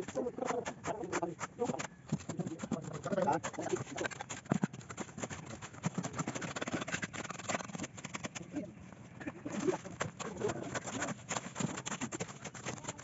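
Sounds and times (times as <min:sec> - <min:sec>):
shovel scraping wet concrete: 0:00.0 - 0:08.4, 0:09.5 - 0:13.0.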